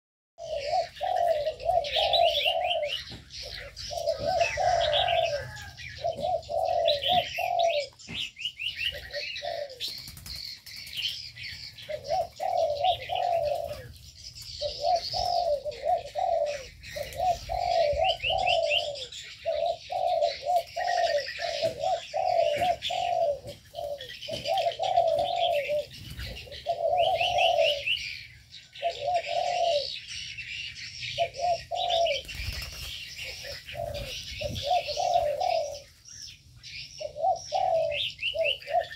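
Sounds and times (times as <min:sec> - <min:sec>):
doves cooing: 0:00.4 - 0:38.9
small birds chirping and trilling: 0:00.4 - 0:38.9.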